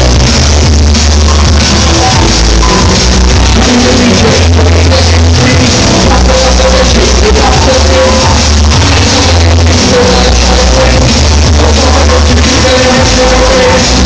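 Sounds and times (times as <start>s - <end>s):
electronic dance music: 0.0s - 14.0s
heavy bass notes: 0.0s - 14.0s.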